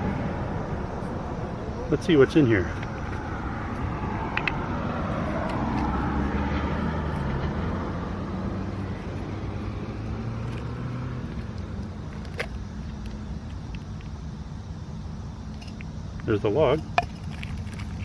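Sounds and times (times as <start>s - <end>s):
passing car engine and tyres: 0.0s - 18.0s.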